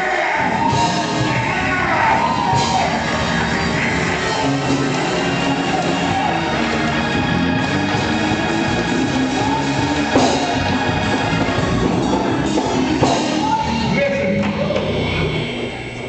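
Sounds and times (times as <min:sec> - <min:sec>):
organ and drums church music: 0:00.0 - 0:16.0.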